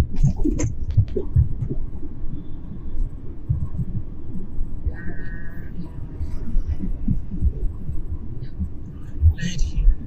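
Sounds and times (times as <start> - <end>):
car interior road noise: 0.0 - 10.0
low thumps: 0.0 - 10.0.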